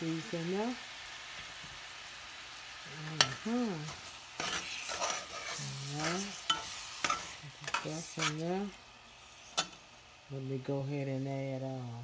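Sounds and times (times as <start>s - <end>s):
fruit sizzling in syrup: 0.0s - 12.0s.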